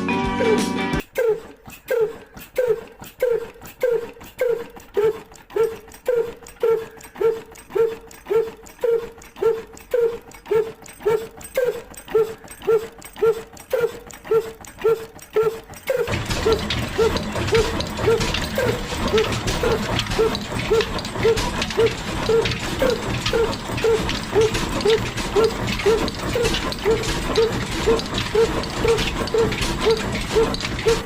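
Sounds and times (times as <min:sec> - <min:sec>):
mechanism squeaking: 0:00.4 - 0:31.0
faint fast clicking: 0:01.5 - 0:31.0.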